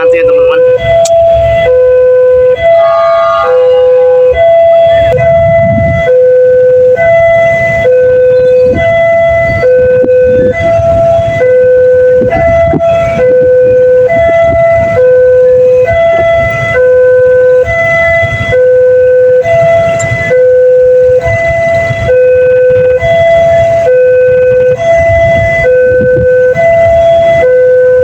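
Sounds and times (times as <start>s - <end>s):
level-crossing two-tone siren: 0.0s - 28.0s
low rumble: 0.0s - 28.0s.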